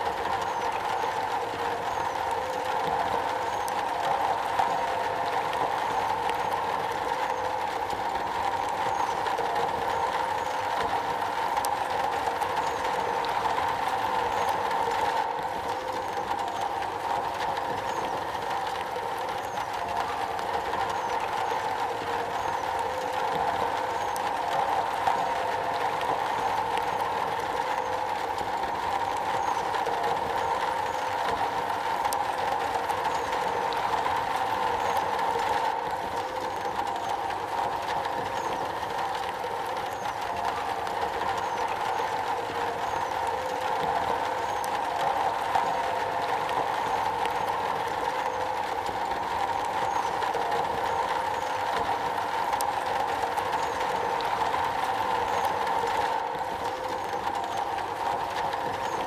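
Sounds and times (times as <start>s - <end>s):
rain drumming on a metal roof: 0.0s - 59.0s.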